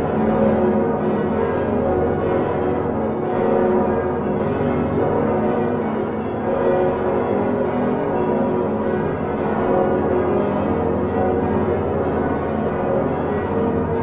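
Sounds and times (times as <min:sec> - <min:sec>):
church bells pealing: 0:00.0 - 0:14.0.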